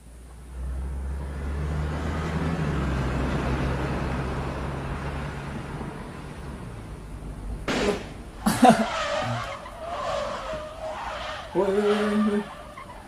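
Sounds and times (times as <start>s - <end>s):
car driving past: 0.4s - 13.0s.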